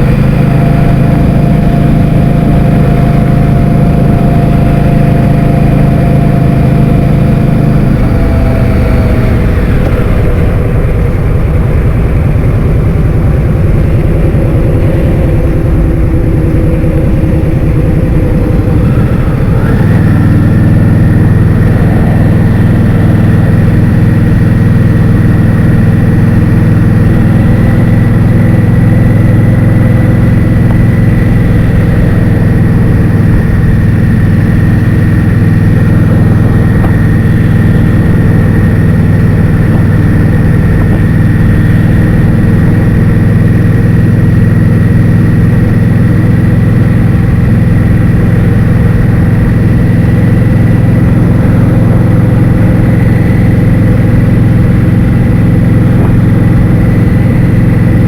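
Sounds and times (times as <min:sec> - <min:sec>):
scooter engine running: 0:00.0 - 0:58.0
thin steady whine: 0:00.0 - 0:58.0
wind buffeting microphone: 0:00.0 - 0:58.0.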